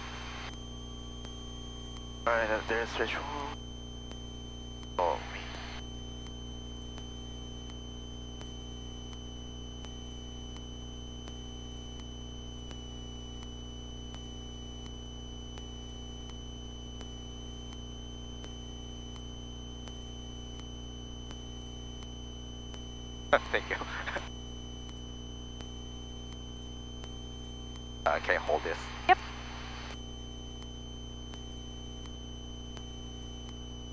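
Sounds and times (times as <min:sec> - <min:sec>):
radio hum and hiss: 0:00.0 - 0:33.9.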